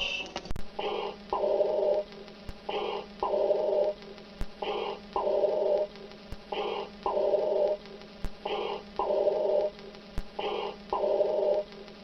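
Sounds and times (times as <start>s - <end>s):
steady low hum: 0.0s - 12.0s
respirator breathing imitation: 0.8s - 2.0s, 2.6s - 11.6s.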